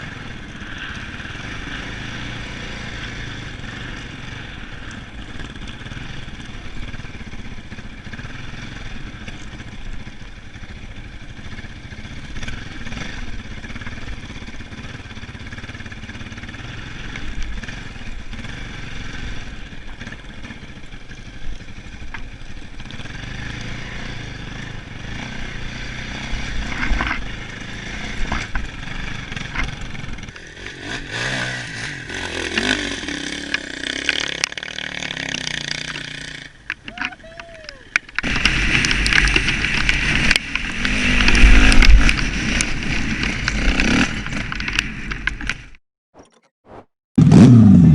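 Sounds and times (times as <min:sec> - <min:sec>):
dirt bike engine revving: 0:00.0 - 0:36.8, 0:38.0 - 0:45.7, 0:47.2 - 0:47.9.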